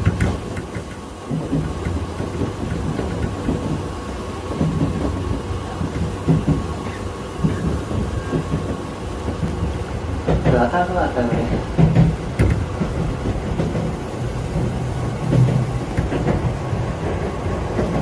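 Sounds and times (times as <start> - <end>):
knocks and rattles: 0.0 - 3.9, 4.5 - 18.0
train wheels rumbling on rail: 0.0 - 18.0.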